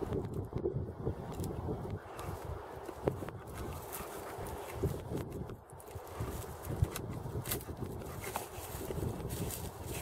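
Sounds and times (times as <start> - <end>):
twigs rustling: 1.2 - 10.0.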